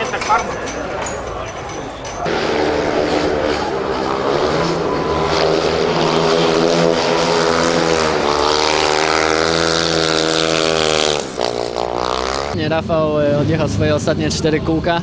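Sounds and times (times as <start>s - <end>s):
motorcycle engine racing: 2.2s - 15.0s.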